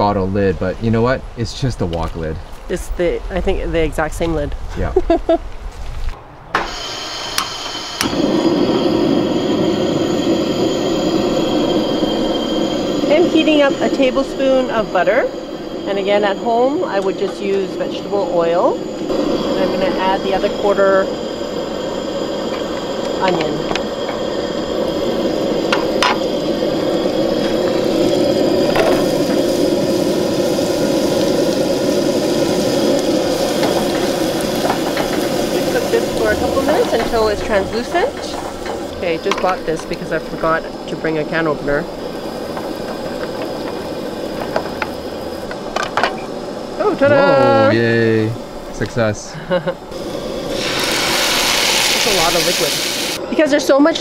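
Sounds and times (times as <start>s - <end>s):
burner roaring: 6.0s - 54.0s
gas hissing: 6.0s - 54.0s
butter sizzling in a pot: 6.7s - 49.2s, 49.9s - 54.0s.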